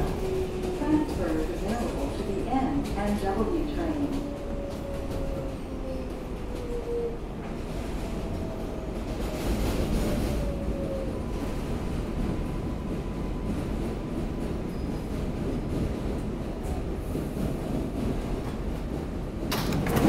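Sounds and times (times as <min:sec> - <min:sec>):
subway wheels rumbling on rail: 0:00.0 - 0:20.0.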